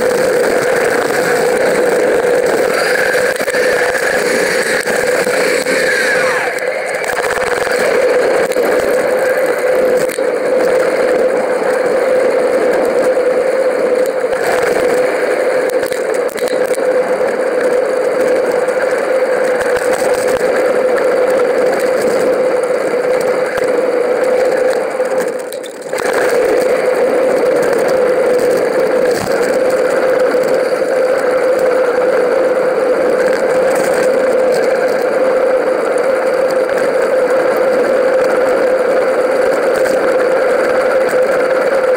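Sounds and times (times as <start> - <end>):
bike tyres on tarmac: 0.0 - 41.9
constant hum: 0.0 - 41.9.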